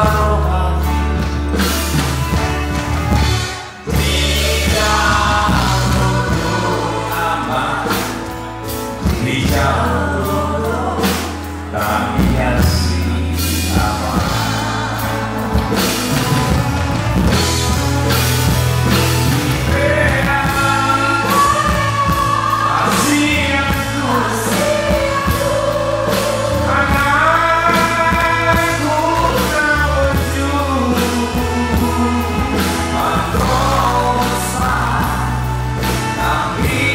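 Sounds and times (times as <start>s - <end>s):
people singing into microphones: 0.0s - 2.4s, 3.0s - 36.9s
band music with bass and drums: 0.0s - 36.9s.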